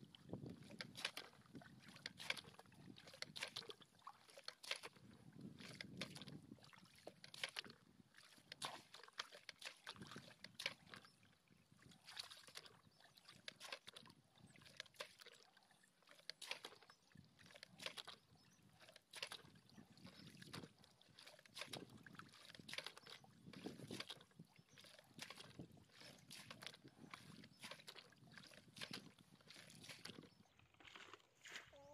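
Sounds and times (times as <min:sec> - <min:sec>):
shallow water splashing and sloshing: 0:00.0 - 0:31.9.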